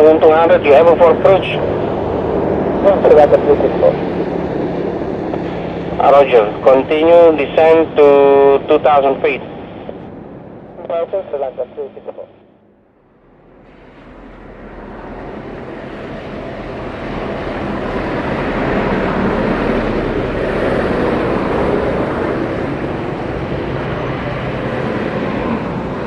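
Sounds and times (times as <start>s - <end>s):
jet plane flying past: 0.0s - 11.9s, 13.2s - 26.0s.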